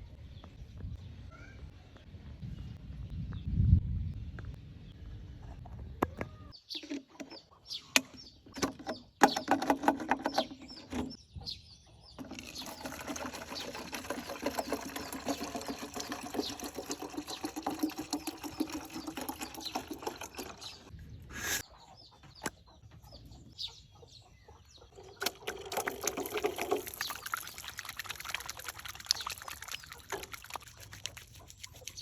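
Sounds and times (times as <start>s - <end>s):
birds chirping and clucking: 5.4s - 32.0s.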